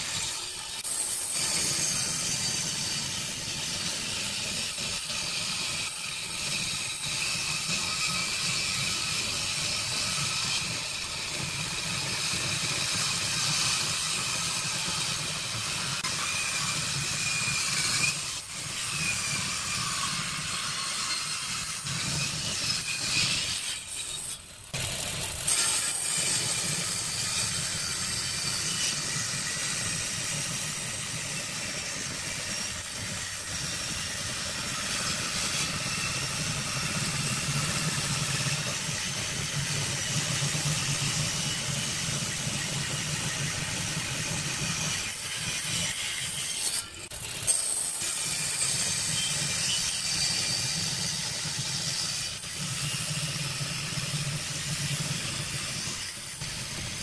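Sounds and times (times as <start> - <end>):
table saw cutting wood: 0.0 - 57.0.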